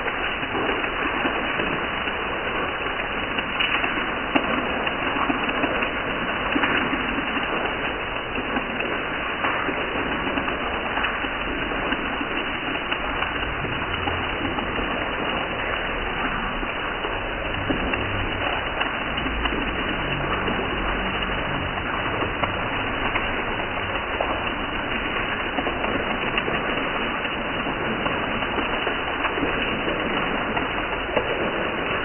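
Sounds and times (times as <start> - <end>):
heavy rain on concrete: 0.0 - 32.0.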